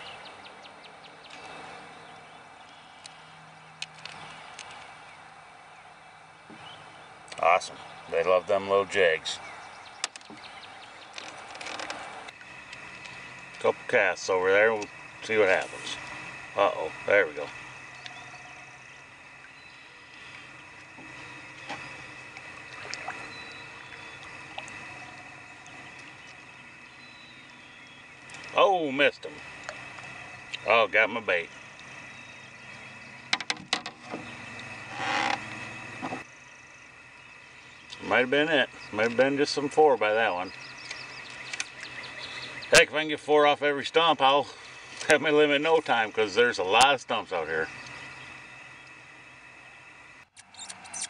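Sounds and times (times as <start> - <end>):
water lapping against a hull: 0.0 - 50.3.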